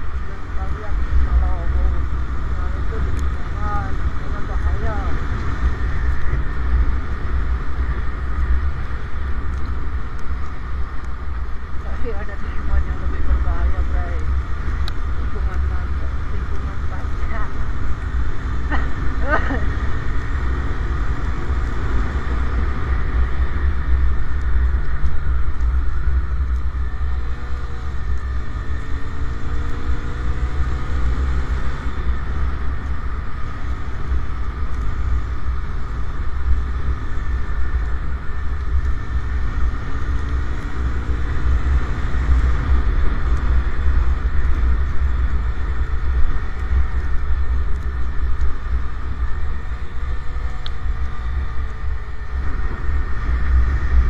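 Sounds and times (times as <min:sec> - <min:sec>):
motorcycle engine accelerating: 0:00.0 - 0:54.0
wind rumble on microphone: 0:00.0 - 0:54.0.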